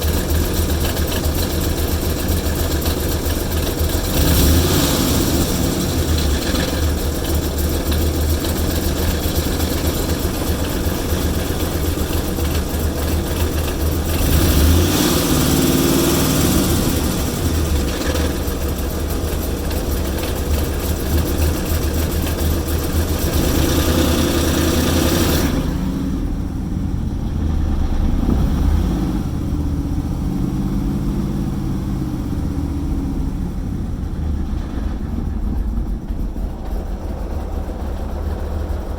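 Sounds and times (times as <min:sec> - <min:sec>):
engine idling roughly: 0:00.0 - 0:38.9.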